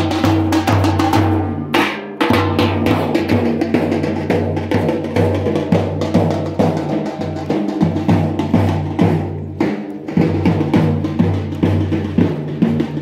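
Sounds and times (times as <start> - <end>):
large drums beaten fast: 0.0 - 13.0
side drum beaten with sticks: 0.0 - 13.0.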